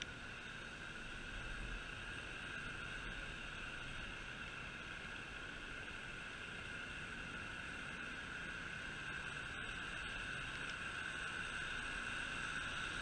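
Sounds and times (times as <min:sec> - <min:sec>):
go-kart engine drone: 0:00.0 - 0:13.0.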